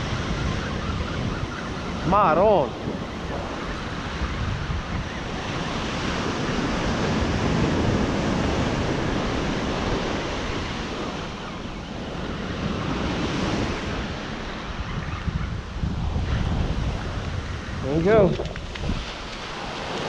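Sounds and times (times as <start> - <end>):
wind buffeting microphone: 0.0 - 20.0
surf breaking on sandy beach: 1.9 - 14.9, 15.8 - 20.0.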